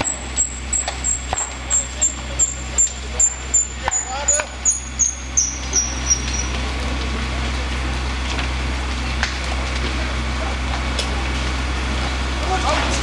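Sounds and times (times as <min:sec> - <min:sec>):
fire rushing and cracking: 0:00.0 - 0:13.0
low engine-like hum: 0:00.0 - 0:13.0.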